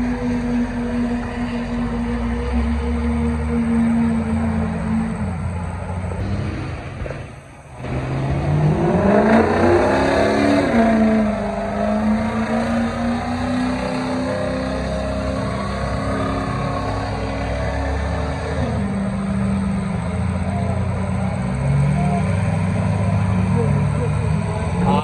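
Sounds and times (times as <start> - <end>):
tractor engine revving: 0.0 - 25.0.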